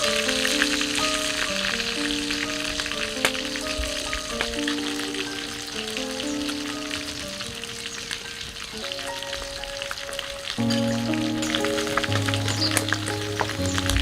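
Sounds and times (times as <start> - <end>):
background music of held notes: 0.0 - 14.0
fish sizzling in hot oil: 0.0 - 14.0.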